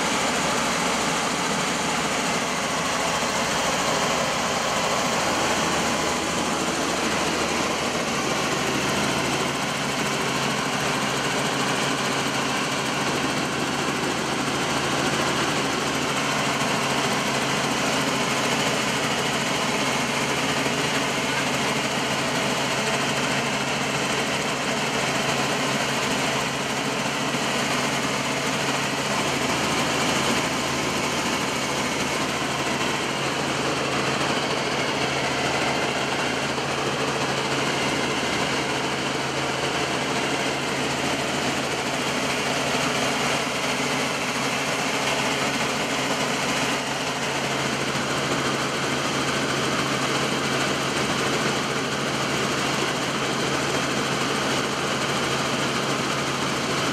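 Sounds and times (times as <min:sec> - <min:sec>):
helicopter engine and rotor drone: 0:00.0 - 0:56.9.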